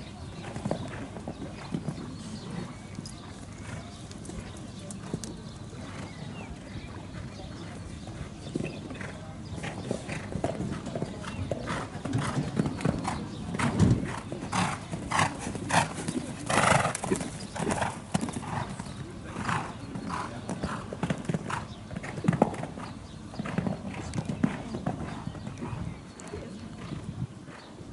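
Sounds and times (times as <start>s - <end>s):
horse hoofbeats on sand: 0.3s - 27.8s.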